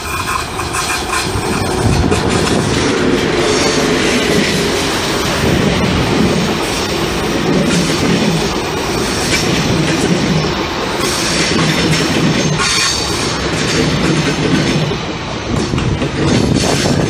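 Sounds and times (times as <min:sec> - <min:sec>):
train wheels rumbling and clattering: 0:00.0 - 0:17.0.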